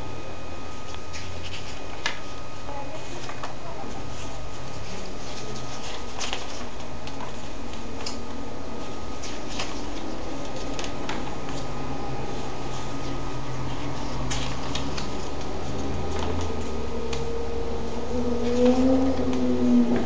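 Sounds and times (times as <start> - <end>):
background hum: 0.0 - 20.0
paper pages rustling: 0.8 - 17.3.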